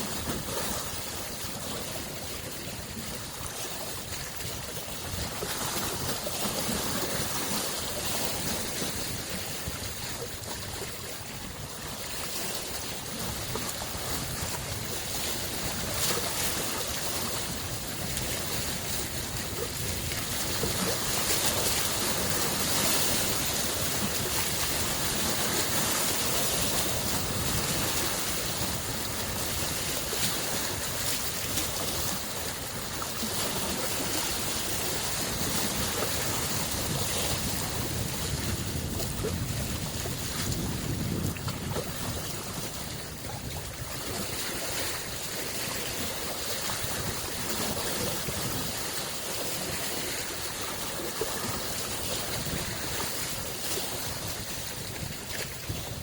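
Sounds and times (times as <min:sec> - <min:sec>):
lake waves lapping on shore: 0:00.0 - 0:56.0
wind noise: 0:00.0 - 0:56.0.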